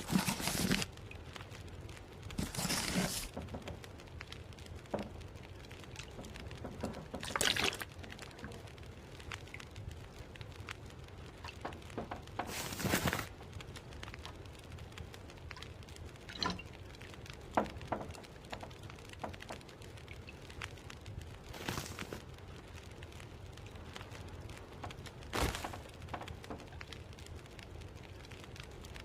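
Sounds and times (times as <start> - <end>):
light clicks and crackles: 0.0 - 29.0
low steady hum: 0.0 - 29.0.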